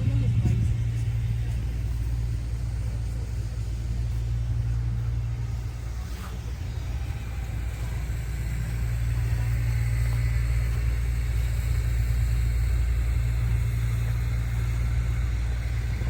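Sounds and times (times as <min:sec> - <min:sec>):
low rumble of street traffic: 0:00.0 - 0:16.0
nearby vehicle engine running: 0:00.0 - 0:16.0.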